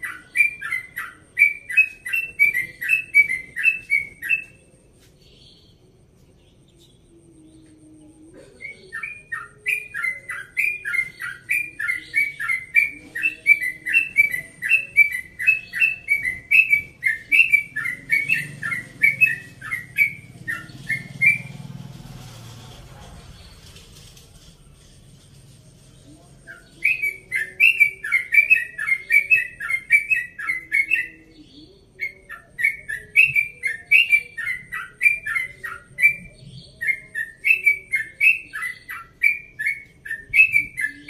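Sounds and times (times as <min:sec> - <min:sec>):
bird singing rolling chirps: 0:00.0 - 0:22.2, 0:23.2 - 0:41.0.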